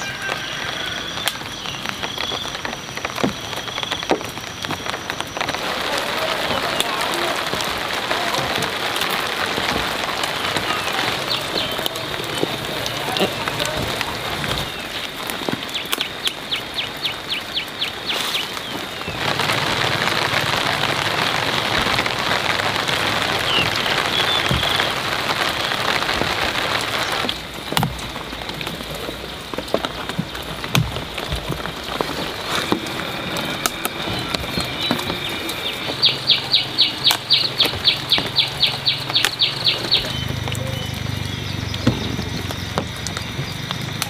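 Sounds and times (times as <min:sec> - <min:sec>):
rain pattering on leaves: 0:00.0 - 0:44.0.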